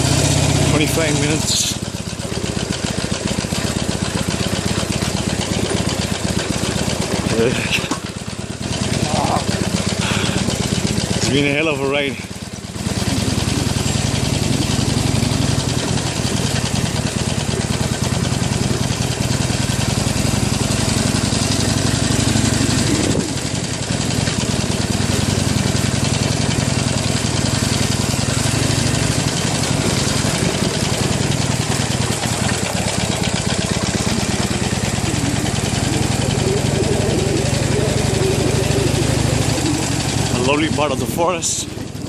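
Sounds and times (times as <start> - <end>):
motorcycle engine running at low revs: 0.0 - 42.0.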